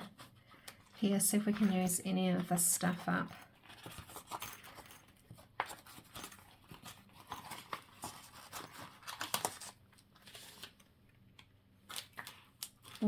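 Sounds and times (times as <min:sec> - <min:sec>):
paper rustling and crinkling: 0:00.0 - 0:11.0, 0:11.8 - 0:13.0.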